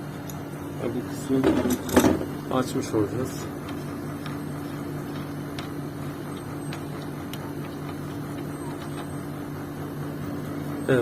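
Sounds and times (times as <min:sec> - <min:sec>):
air conditioner compressor and fan hum: 0:00.0 - 0:11.0.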